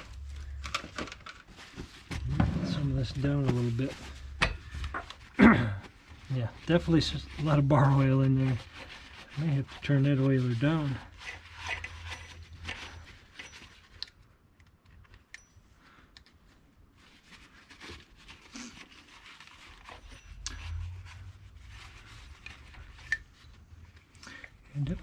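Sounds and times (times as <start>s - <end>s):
rag rubbing and scratching: 1.4s - 14.0s, 17.0s - 25.0s.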